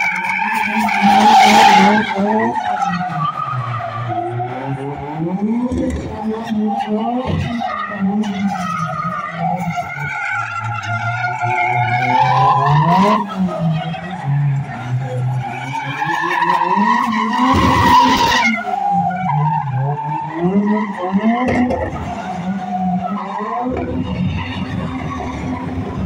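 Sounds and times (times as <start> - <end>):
car engine revving: 0.0 - 26.0
tyres skidding and squealing: 0.0 - 26.0.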